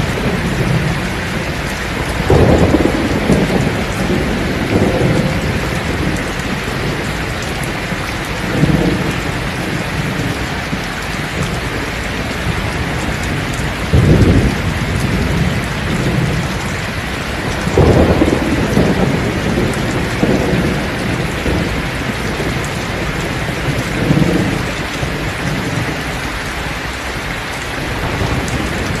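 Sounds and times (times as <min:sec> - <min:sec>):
heavy rain on thatched roof: 0:00.0 - 0:29.0
thunder rumbling: 0:00.0 - 0:29.0.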